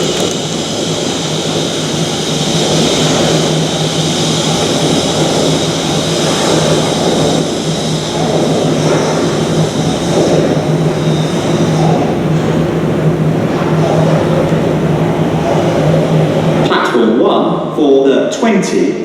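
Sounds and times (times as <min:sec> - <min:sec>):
constant high tone: 0:00.0 - 0:16.9
constant low hum: 0:00.0 - 0:17.8
electric train running noise: 0:00.0 - 0:18.3.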